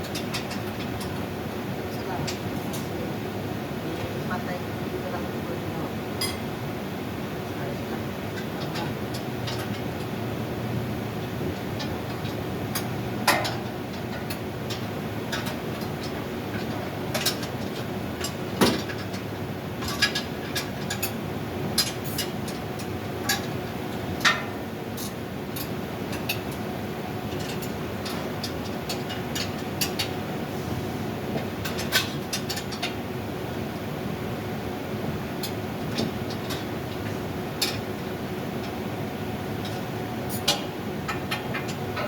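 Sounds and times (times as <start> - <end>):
machinery hum: 0.0 - 42.0.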